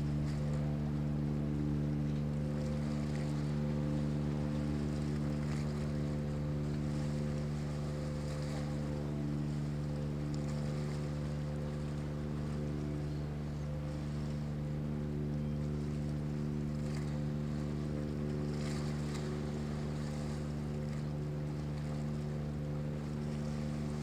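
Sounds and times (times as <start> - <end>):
ship diesel engine drone: 0.0 - 24.0
wind and water hiss: 0.0 - 24.0.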